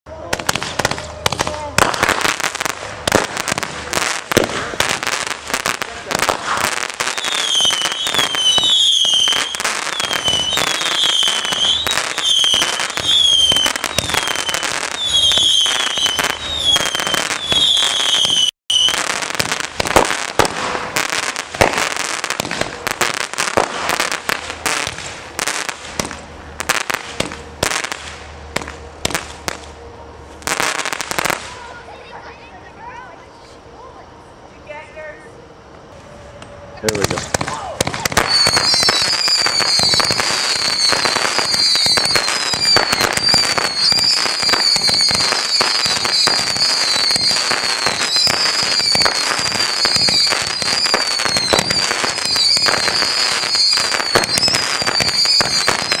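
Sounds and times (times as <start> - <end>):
firework bursting pops and crackle: 0.2 - 31.8, 36.8 - 56.0
short high firework whistles: 0.3 - 31.8, 35.2 - 56.0.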